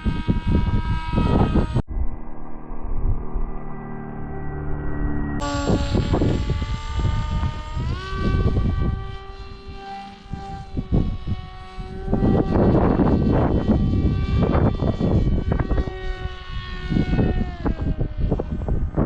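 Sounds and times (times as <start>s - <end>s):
wind buffeting microphone: 0.0s - 2.2s, 5.4s - 19.0s
electric motor and propeller whining: 0.0s - 19.0s.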